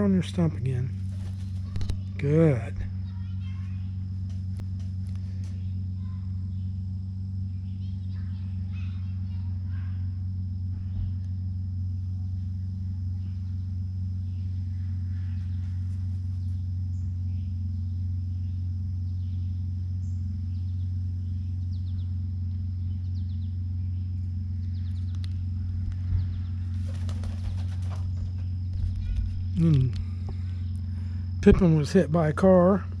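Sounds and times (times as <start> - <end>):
steady low hum: 0.0 - 33.0
faint bird chirps: 2.8 - 4.0, 5.2 - 11.4, 12.1 - 31.2.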